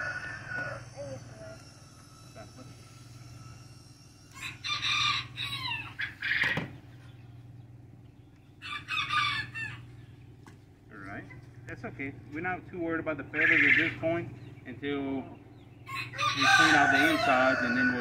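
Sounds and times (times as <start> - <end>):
roosters crowing: 0.0 - 10.8, 13.1 - 18.0.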